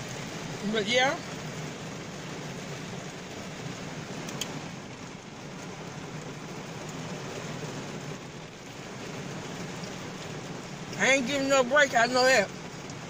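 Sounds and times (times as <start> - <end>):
car cabin engine rush and hum: 0.0 - 13.0.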